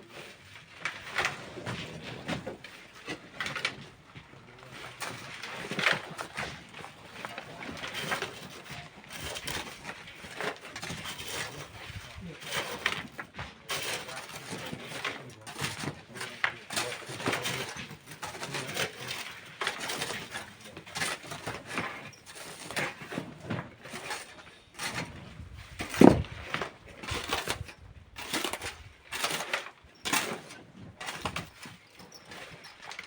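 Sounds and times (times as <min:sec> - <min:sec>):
hand tools scraping rock: 0:00.0 - 0:33.0.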